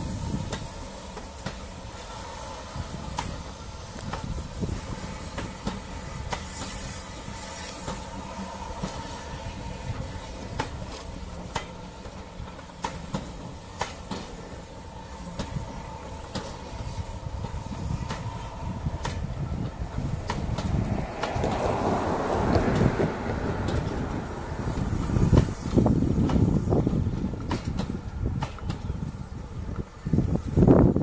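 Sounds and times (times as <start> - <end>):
train wheels clicking over rail joints: 0.0 - 30.6
train rumble: 0.0 - 31.0.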